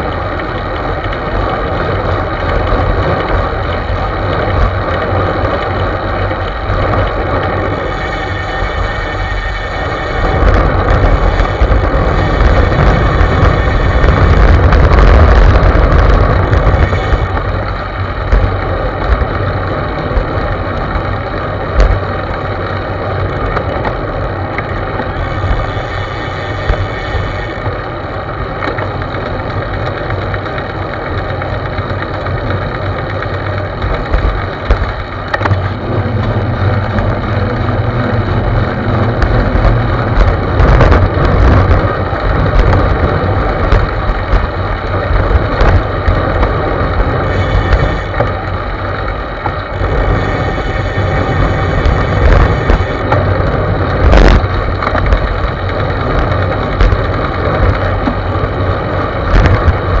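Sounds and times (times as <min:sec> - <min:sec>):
bicycle tyre and road noise: 0:00.0 - 1:00.0
wind rumble on microphone: 0:00.0 - 1:00.0.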